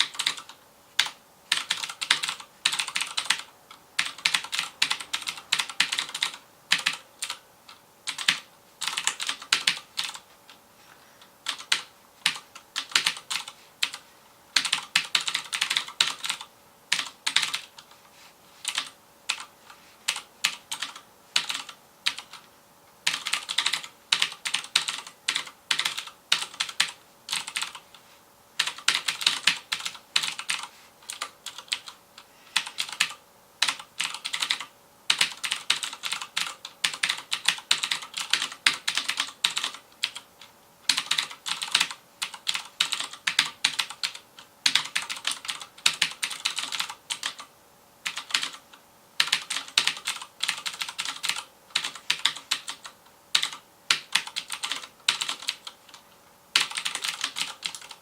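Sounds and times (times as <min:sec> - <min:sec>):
clicky mechanical keyboard typing: 0:00.0 - 0:10.6, 0:11.4 - 0:14.0, 0:14.6 - 0:18.0, 0:18.6 - 0:19.5, 0:20.1 - 0:27.9, 0:28.6 - 0:58.0.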